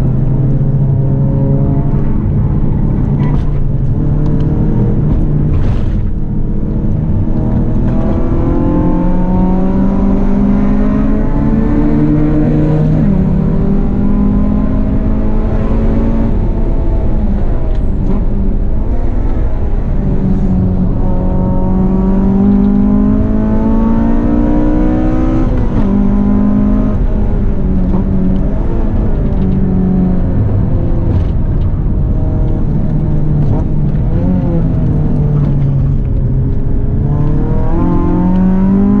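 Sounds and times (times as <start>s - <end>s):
low rumble: 0.0s - 24.2s, 24.8s - 39.0s
car engine revving: 0.0s - 39.0s.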